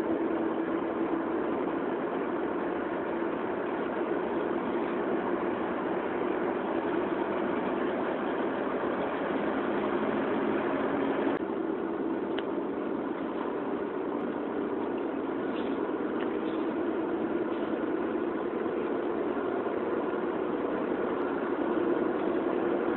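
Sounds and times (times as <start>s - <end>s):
vehicle engine and road noise: 0.0s - 22.9s.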